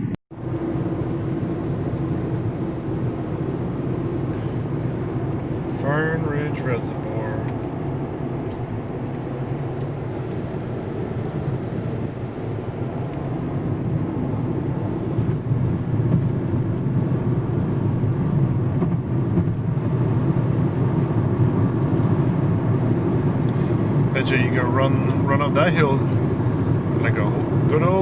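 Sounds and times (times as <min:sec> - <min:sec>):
vehicle road and engine rumble: 0:00.0 - 0:28.0.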